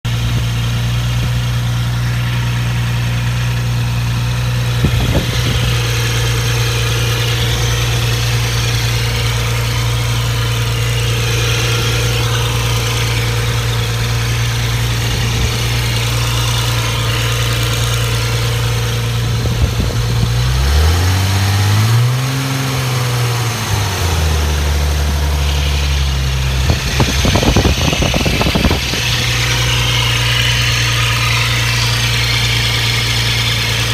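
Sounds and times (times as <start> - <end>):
car engine idling: 0.0 - 33.9
strange engine noise: 0.0 - 33.9.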